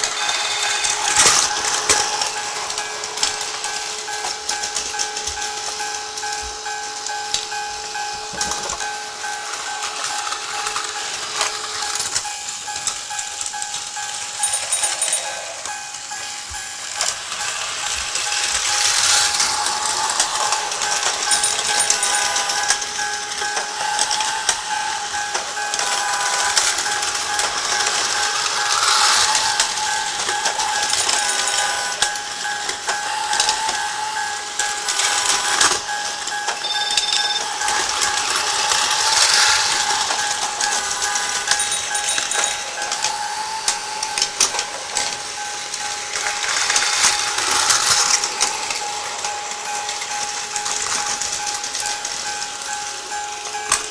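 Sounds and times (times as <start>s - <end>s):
toy train motor whining: 0.0s - 53.9s.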